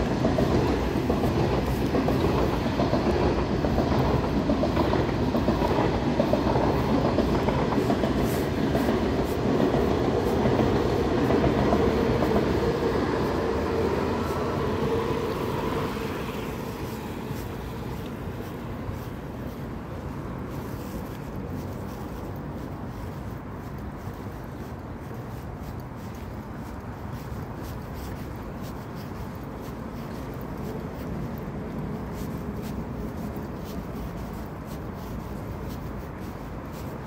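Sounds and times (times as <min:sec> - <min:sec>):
electric train passing: 0:00.0 - 0:37.0.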